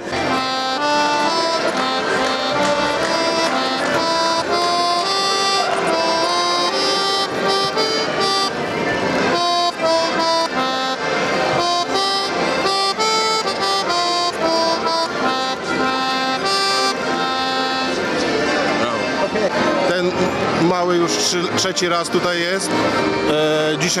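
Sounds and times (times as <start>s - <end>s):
accordions playing a melody: 0.0s - 24.0s.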